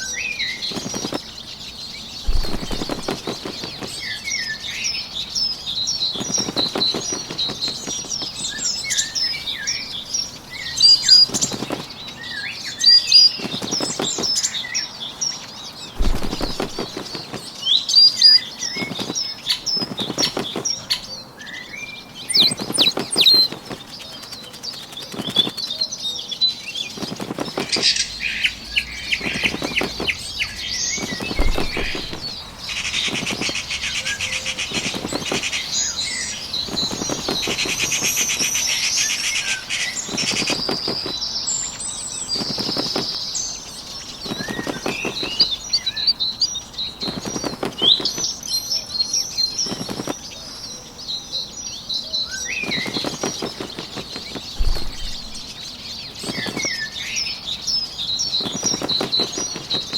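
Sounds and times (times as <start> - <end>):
birds chirping and singing: 0.0 - 59.9
bird wings flapping: 0.4 - 14.7, 15.8 - 21.2, 22.2 - 26.0, 26.8 - 43.4, 44.0 - 46.1, 46.9 - 48.5, 49.4 - 50.3, 52.4 - 57.1, 58.2 - 59.9.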